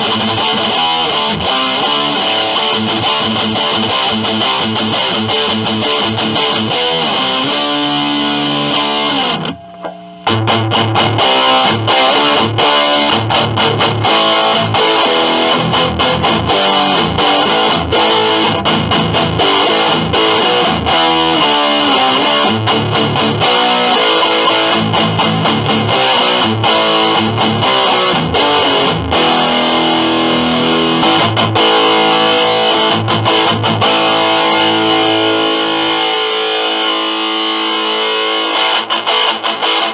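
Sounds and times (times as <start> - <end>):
distorted electric guitar riffing: 0.0 - 39.9.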